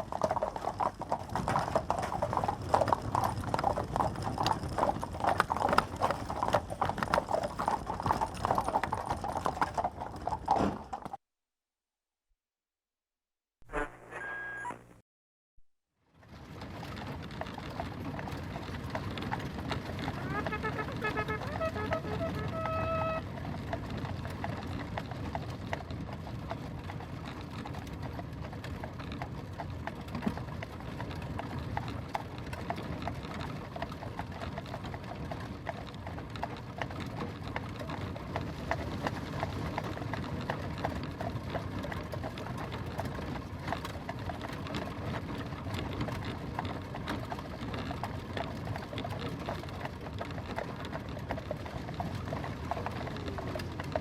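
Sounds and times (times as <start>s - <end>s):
carriage rattling and rumbling: 0.0s - 11.2s, 16.3s - 54.0s
hooves clip-clopping: 0.0s - 11.2s, 16.3s - 54.0s.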